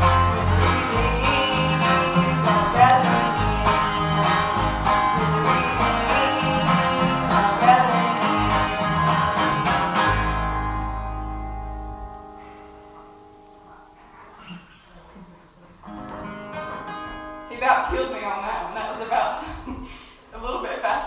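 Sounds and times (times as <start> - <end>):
strummed acoustic guitar: 0.0 - 18.4.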